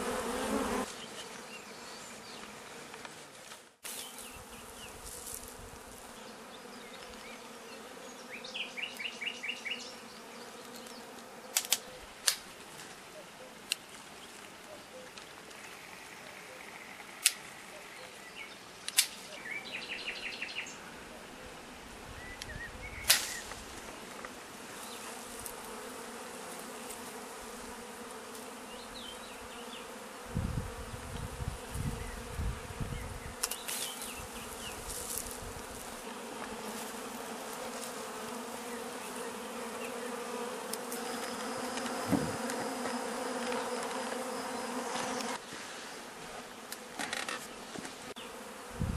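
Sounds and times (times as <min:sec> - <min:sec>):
bee swarm buzzing: 0:00.0 - 0:14.6, 0:15.3 - 0:48.9.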